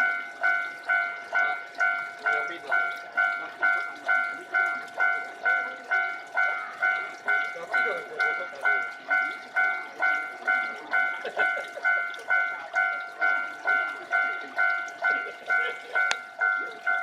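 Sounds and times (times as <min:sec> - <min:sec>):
level-crossing warning bell clanging: 0:00.0 - 0:17.0.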